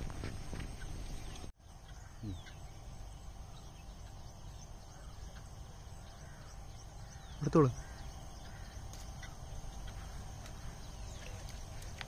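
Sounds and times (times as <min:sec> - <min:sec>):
high-pitched insect drone: 0:00.3 - 0:12.0.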